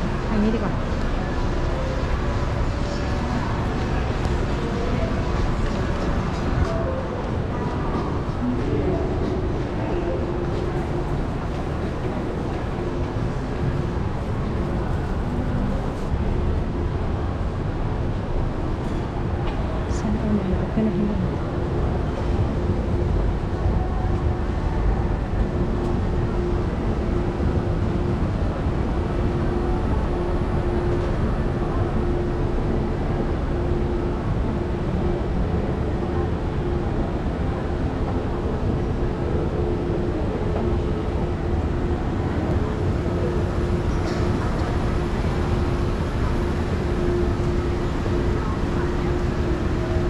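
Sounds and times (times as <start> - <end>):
escalator rumbling and humming: 0.0 - 50.0.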